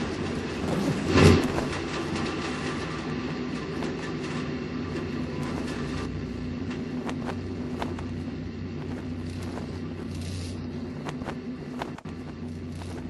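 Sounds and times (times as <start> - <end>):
low humming tones: 0.0 - 13.0
low mechanical drone: 0.0 - 13.0.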